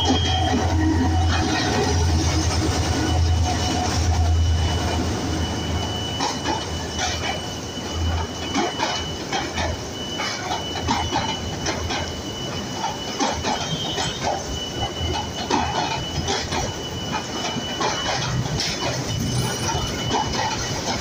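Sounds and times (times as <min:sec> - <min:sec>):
high wheel squeal: 0:00.0 - 0:21.0
train wheels clattering over joints: 0:00.0 - 0:21.0.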